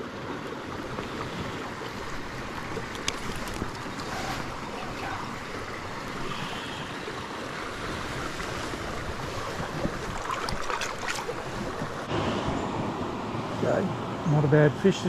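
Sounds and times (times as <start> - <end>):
creek water over rocks: 0.0 - 12.1.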